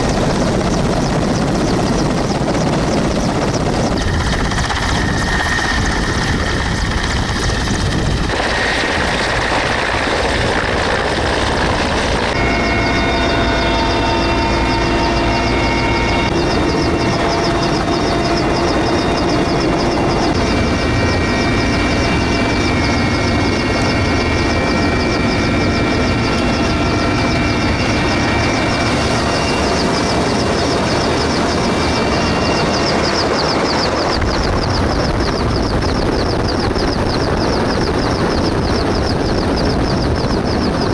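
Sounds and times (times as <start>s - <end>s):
helicopter in flight: 0.0s - 40.9s.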